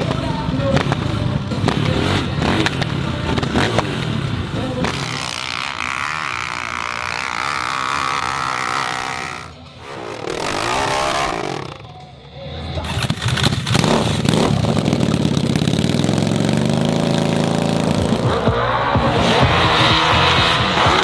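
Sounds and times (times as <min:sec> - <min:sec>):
racing motorcycle engines revving: 0:00.0 - 0:21.0.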